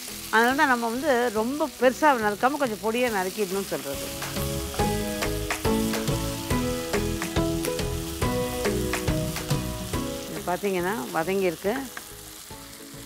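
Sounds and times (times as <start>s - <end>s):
background music with held notes: 0.0s - 13.0s
onion and tomato sizzling: 0.0s - 13.0s.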